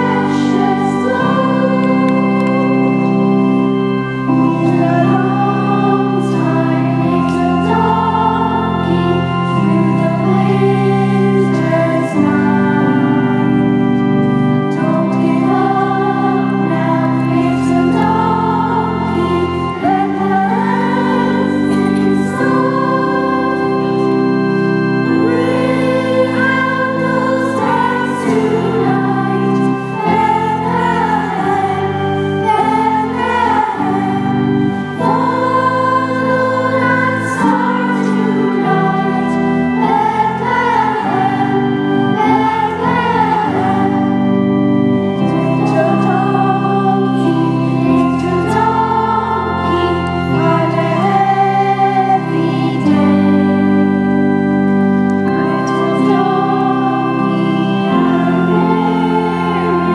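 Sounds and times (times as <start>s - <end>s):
children's choir singing: 0.0s - 59.9s
held instrumental chords: 0.0s - 59.9s.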